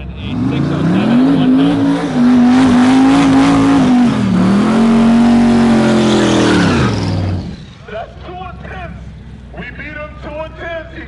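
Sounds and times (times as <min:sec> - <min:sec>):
drag car engine at full throttle: 0:00.0 - 0:11.0.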